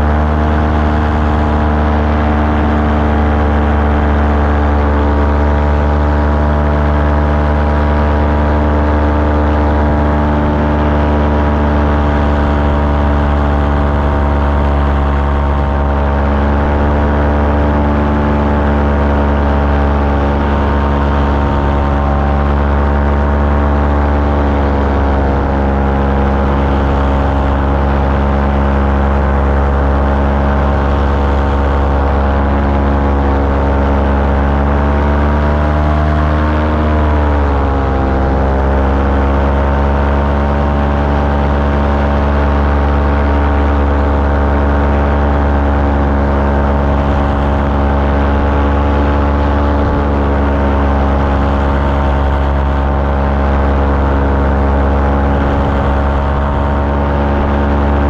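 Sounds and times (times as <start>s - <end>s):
small aircraft engine in flight: 0.0s - 58.0s.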